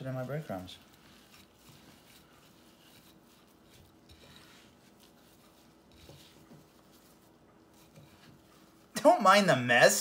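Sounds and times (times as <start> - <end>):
gloved hands rustling: 0.0 - 9.0.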